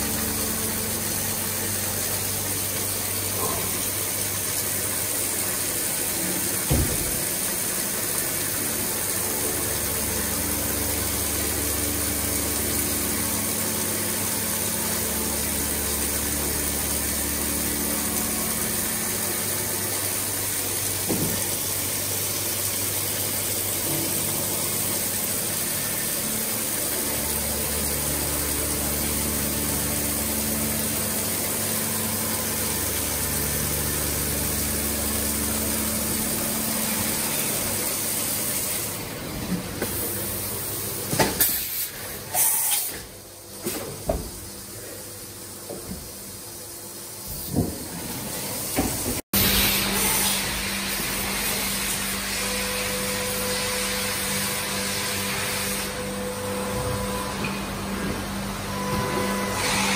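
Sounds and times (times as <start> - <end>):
coolant spray hissing: 0.0 - 39.2, 39.8 - 56.6
machine running hum: 0.0 - 41.2, 44.4 - 59.9.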